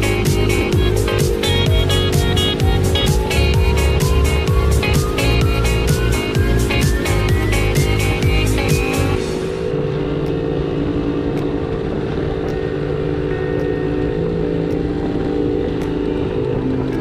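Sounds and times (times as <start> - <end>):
scooter engine running: 0.0 - 17.0
wind and road noise: 0.0 - 17.0.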